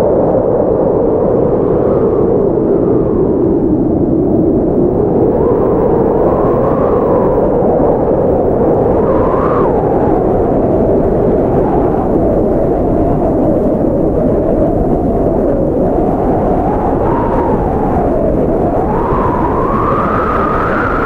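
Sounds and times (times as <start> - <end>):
howling blizzard wind: 0.0 - 21.0.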